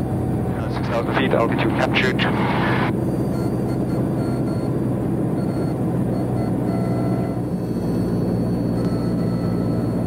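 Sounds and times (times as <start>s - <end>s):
propeller plane engine drone: 0.0s - 10.0s.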